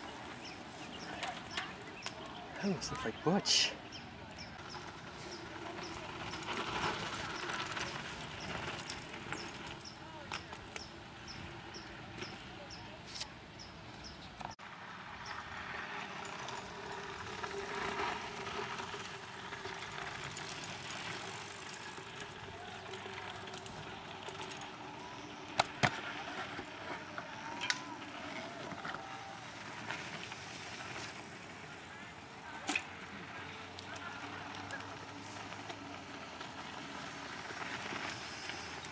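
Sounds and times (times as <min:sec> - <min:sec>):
bike tyres crunching on gravel: 0:03.8 - 0:13.1, 0:14.6 - 0:38.9.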